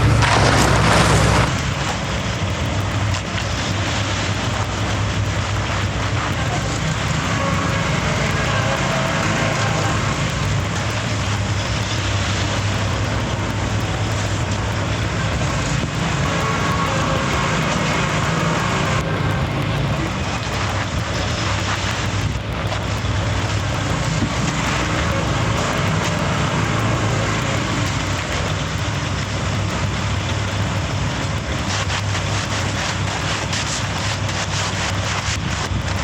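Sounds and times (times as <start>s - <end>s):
heavy equipment engine running: 0.0s - 36.0s.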